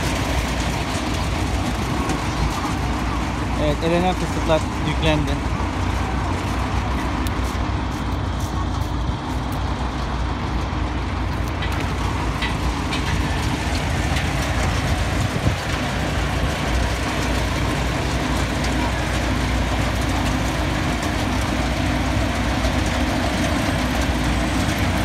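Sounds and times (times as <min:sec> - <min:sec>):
tractor diesel engines rumbling: 0:00.0 - 0:25.0.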